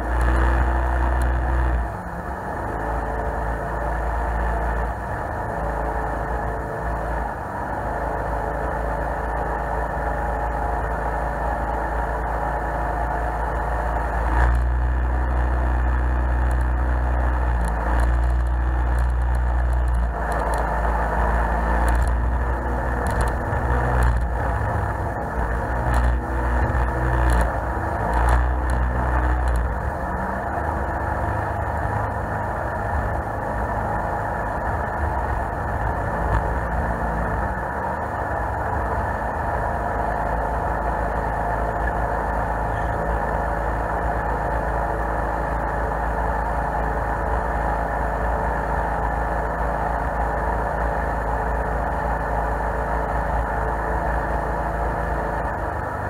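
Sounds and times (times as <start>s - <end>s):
jet boat engine droning: 0.0s - 56.0s.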